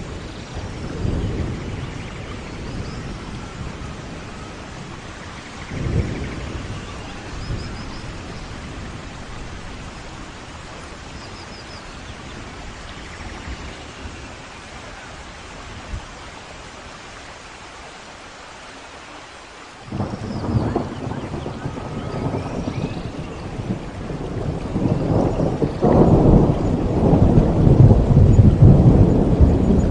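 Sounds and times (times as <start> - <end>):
thunder rumbling: 0.0 - 16.6, 19.8 - 29.9
steady rain: 0.0 - 29.9.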